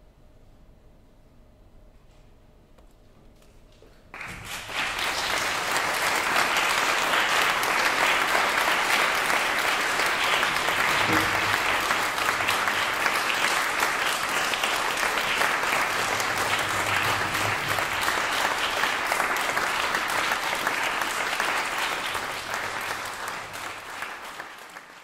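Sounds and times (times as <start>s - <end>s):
audience applauding: 4.1s - 25.0s.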